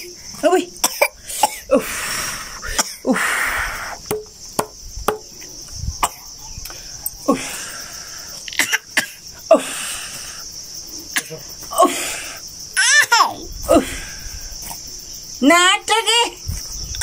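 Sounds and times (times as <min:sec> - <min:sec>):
insect chorus chirring: 0:00.0 - 0:17.0.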